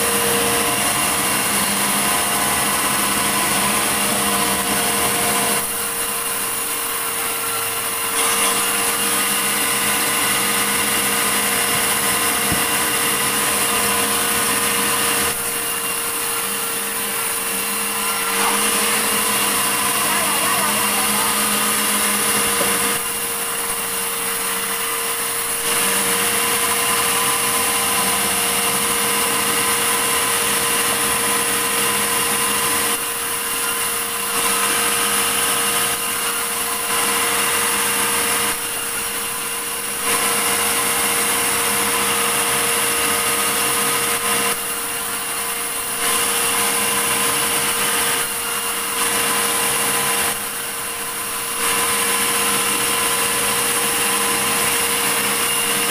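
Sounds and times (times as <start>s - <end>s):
sawmill saw cutting log: 0.0s - 55.9s.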